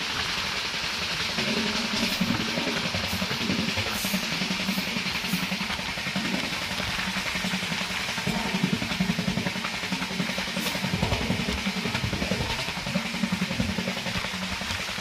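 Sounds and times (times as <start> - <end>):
train rumbling and rattling: 1.2 - 15.0.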